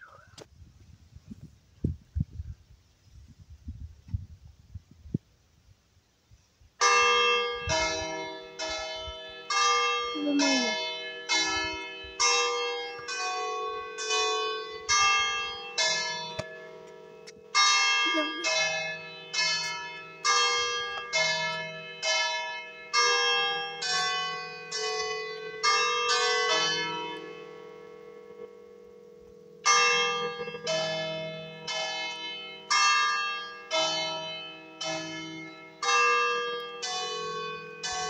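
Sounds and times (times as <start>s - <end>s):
church bells ringing a tune: 6.8s - 38.0s.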